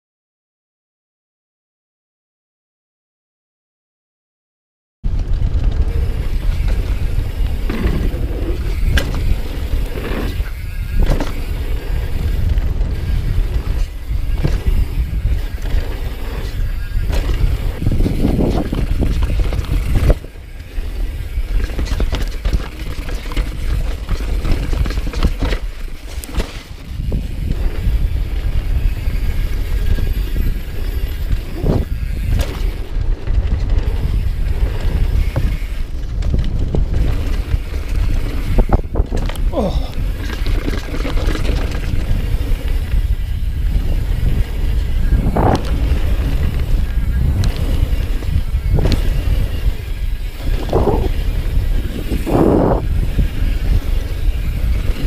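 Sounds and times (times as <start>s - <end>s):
wind rumbling on microphone: 5.0s - 55.0s
tyres rolling on dirt: 5.1s - 55.0s
bike knocks and rattles: 5.2s - 55.0s.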